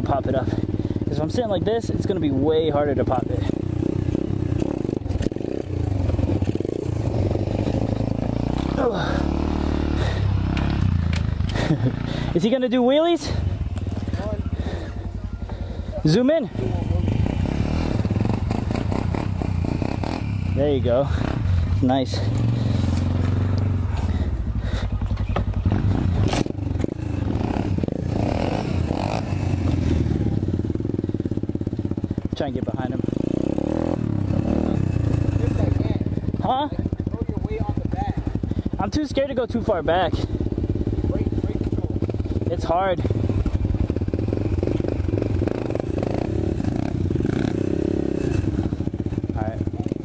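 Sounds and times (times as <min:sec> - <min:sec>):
dirt bike engine running: 0:00.0 - 0:50.0.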